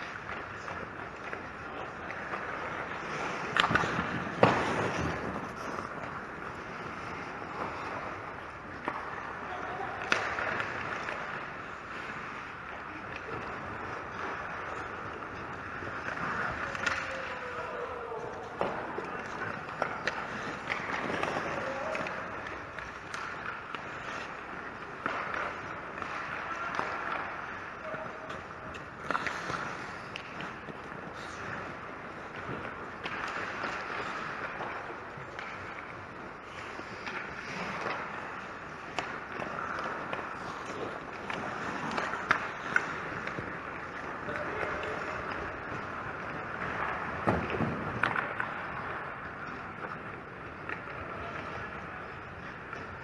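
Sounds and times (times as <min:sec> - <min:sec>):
hockey sticks and puck clacking: 0:00.0 - 0:53.0
skate blades scraping on ice: 0:00.0 - 0:53.0.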